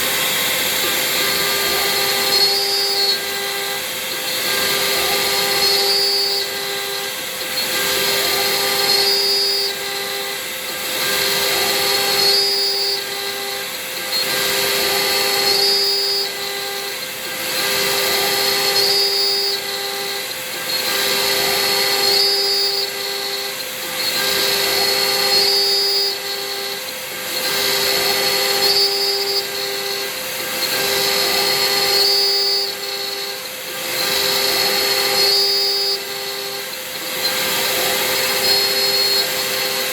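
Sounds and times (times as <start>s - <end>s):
stepper motors whining: 0.0s - 39.9s.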